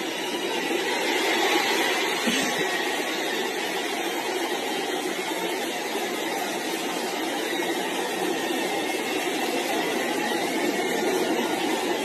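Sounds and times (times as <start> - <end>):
stadium crowd cheering: 0.0 - 12.0.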